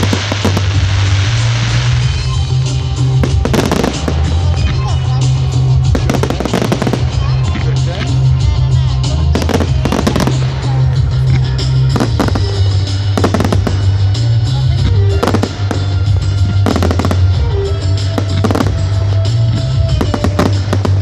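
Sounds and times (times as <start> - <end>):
fireworks bangs: 0.0 - 8.4, 9.0 - 21.0
loud music with heavy bass: 0.0 - 21.0.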